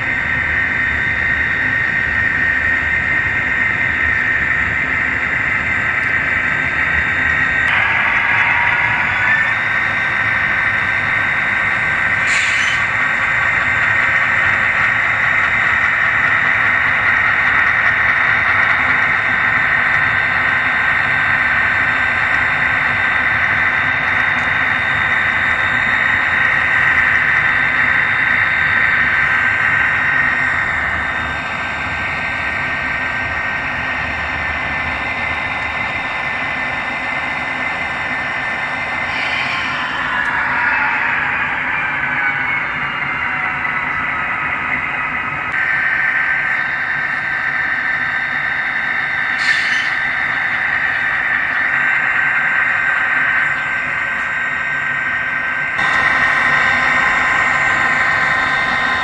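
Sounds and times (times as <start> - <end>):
model locomotive whirring: 0.0 - 59.0.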